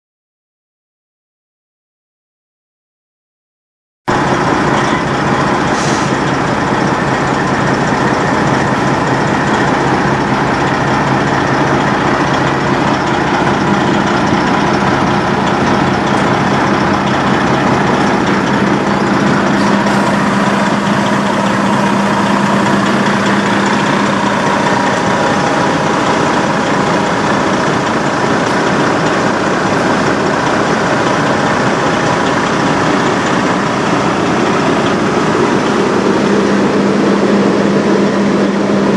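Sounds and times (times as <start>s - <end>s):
diesel truck engine idling: 4.1s - 38.9s.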